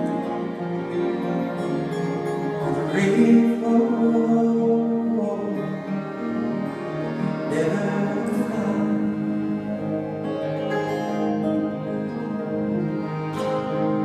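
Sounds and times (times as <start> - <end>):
accordion chords: 0.0 - 14.0
acoustic guitars strumming: 0.0 - 14.0
bowed cello: 0.0 - 14.0.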